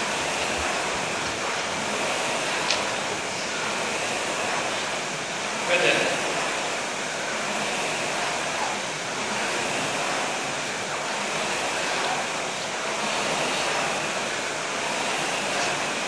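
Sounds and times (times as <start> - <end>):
rowing machine fan whooshing: 0.0 - 16.0.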